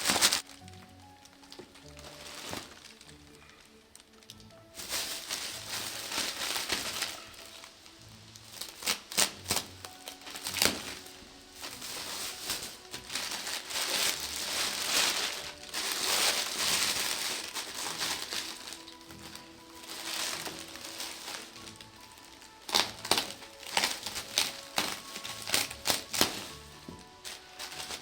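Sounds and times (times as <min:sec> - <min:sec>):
background music: 0:00.0 - 0:28.0
packaging crinkling: 0:00.0 - 0:28.0.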